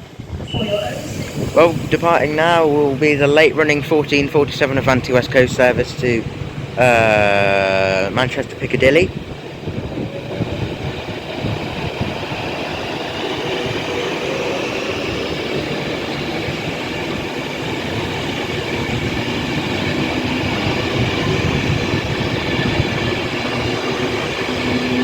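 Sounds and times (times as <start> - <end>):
electric train motors whining: 0.0 - 25.0.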